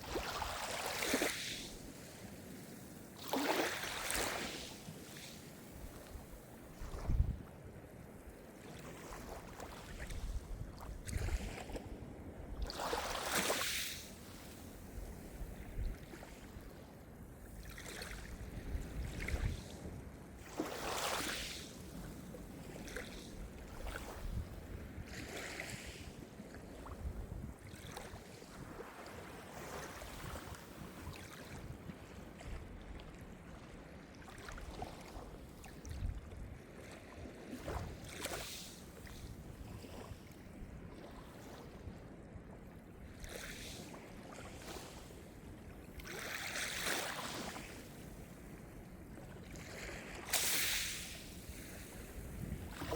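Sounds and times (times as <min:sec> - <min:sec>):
small waves washing: 0:00.0 - 0:07.4, 0:08.2 - 0:16.8, 0:20.4 - 0:41.9, 0:43.2 - 0:52.9.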